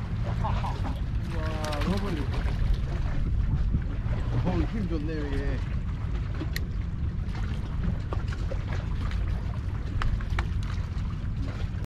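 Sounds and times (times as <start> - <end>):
steady low rumble: 0.0 - 11.9
water splashing: 0.0 - 11.9.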